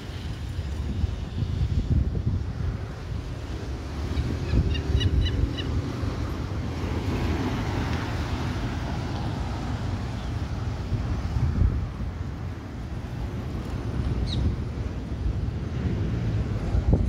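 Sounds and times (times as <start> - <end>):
distant jet engines rushing: 0.0 - 17.0
wind buffeting microphone: 0.0 - 17.0.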